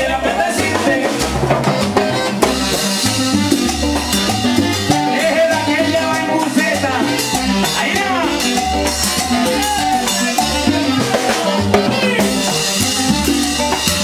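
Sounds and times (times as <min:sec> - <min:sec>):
drums: 0:00.0 - 0:14.0
keyboards: 0:00.0 - 0:14.0
latin percussion: 0:00.0 - 0:14.0
saxophone: 0:01.1 - 0:14.0.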